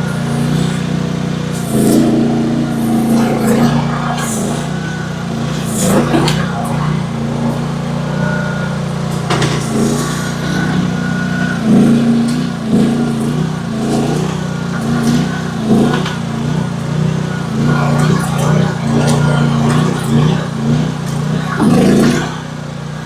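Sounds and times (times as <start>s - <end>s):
excavator engine under load: 0.0s - 23.0s.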